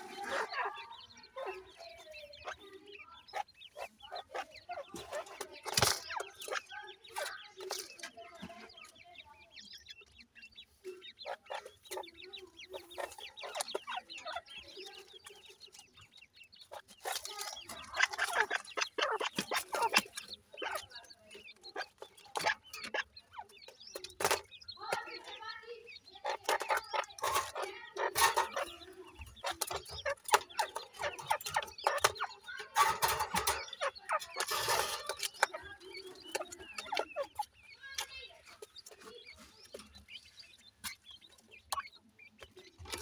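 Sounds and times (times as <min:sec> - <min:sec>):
chicks peeping and chirping: 0:00.0 - 0:43.0.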